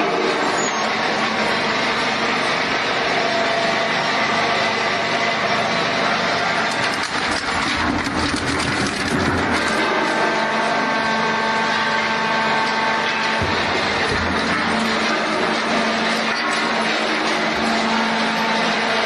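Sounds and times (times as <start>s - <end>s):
shredder grinding and crunching metal: 0.0s - 19.0s
steady machine drone: 0.0s - 19.0s.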